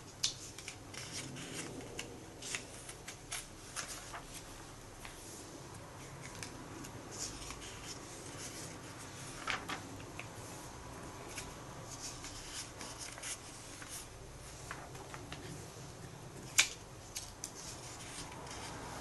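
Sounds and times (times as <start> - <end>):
paper pages rustling and turning: 0.2 - 5.4, 6.2 - 10.6, 11.2 - 15.8, 16.4 - 19.0.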